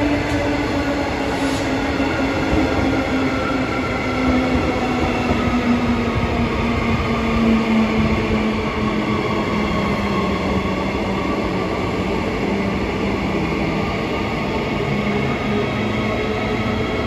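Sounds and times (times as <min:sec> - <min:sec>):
electric train hum: 0:00.0 - 0:17.0.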